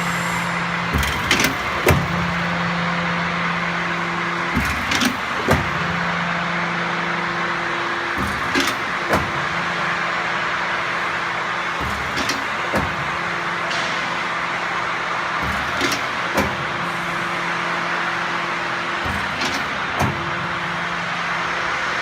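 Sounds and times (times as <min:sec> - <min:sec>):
hydraulic pump hum and hiss: 0:00.0 - 0:22.0.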